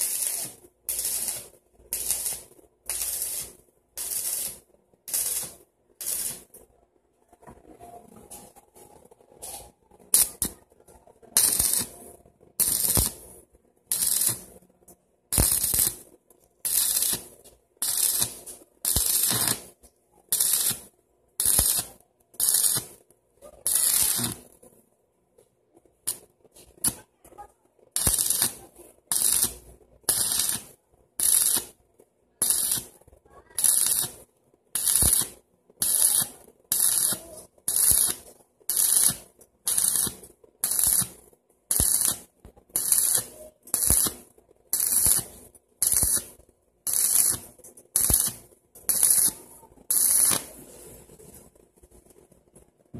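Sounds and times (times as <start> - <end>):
welding arc crackling: 0.0 - 6.7, 8.3 - 24.6, 25.9 - 52.2.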